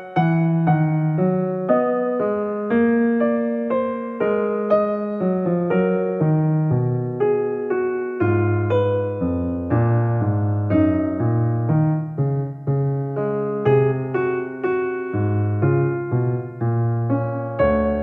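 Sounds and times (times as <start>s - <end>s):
keyboard piano music: 0.0s - 18.0s.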